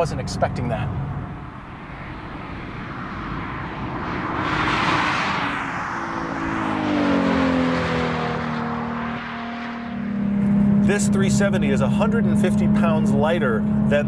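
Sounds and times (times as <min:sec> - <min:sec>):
car passing by at speed: 0:01.1 - 0:13.9.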